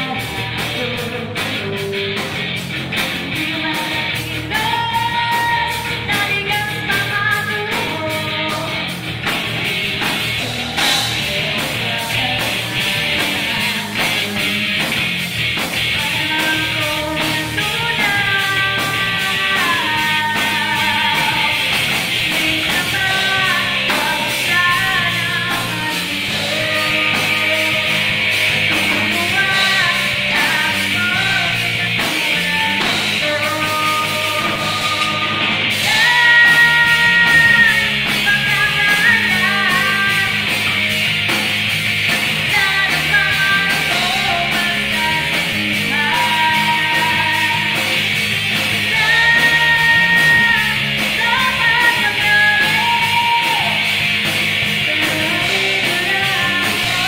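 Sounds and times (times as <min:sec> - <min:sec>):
drum kit: 0:00.0 - 0:57.0
electric guitar through amplifier: 0:00.0 - 0:57.0.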